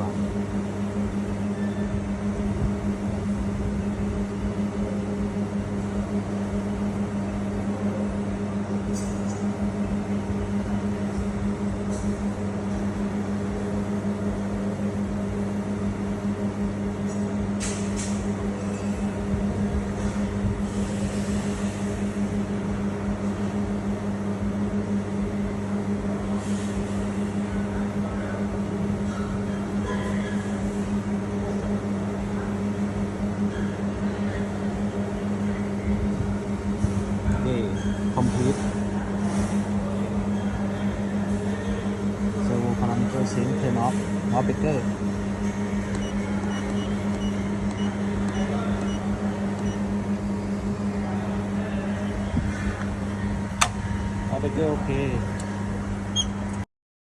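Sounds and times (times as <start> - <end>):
machine hum with whir: 0.0 - 56.7.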